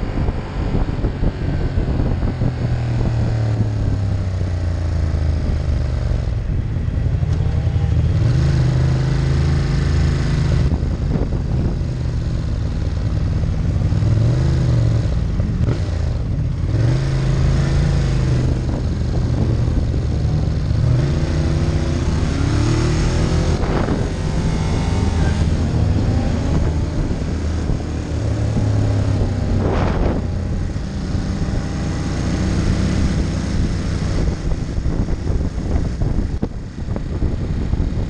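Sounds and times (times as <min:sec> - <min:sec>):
motorcycle engine revving: 0:00.0 - 0:38.0
wind rush: 0:00.0 - 0:38.0.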